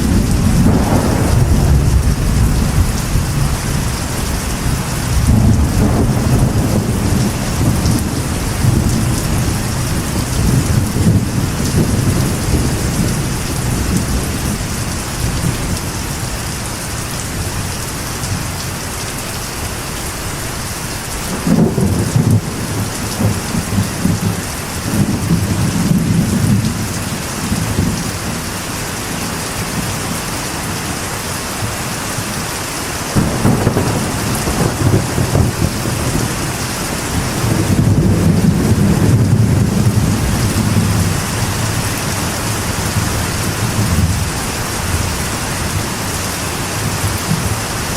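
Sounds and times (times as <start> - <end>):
rolling thunder: 0.0 - 17.6, 21.2 - 28.4, 33.1 - 47.9
rain drumming on a metal roof: 0.0 - 47.9.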